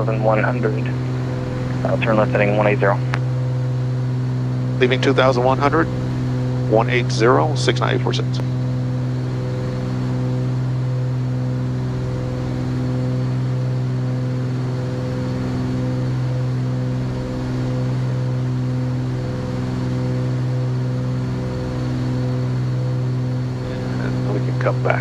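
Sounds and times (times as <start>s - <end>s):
propeller plane engines droning: 0.0s - 25.0s.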